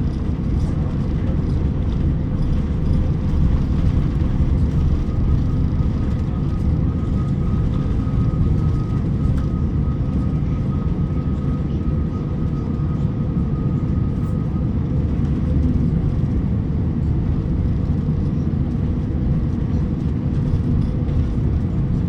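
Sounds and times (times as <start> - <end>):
aircraft cabin engine rumble: 0.0 - 22.0.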